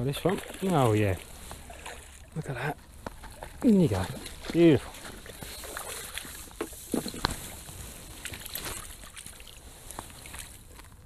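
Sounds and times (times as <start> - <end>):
water splashing and dripping: 0.0 - 10.9.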